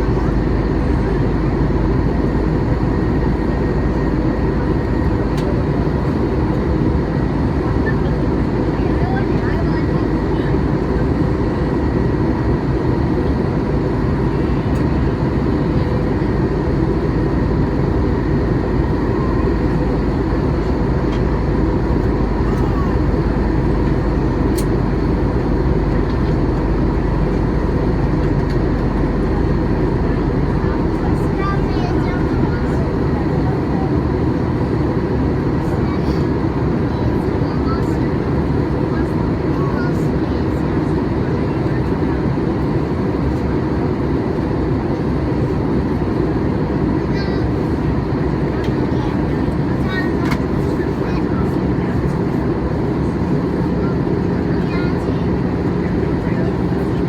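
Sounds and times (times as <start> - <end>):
airplane cabin rumble: 0.0 - 57.0
jet engines droning: 0.0 - 57.0.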